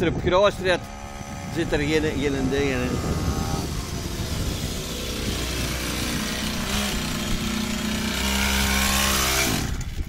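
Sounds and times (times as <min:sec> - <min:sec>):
mini bike engine running: 0:00.1 - 0:10.0.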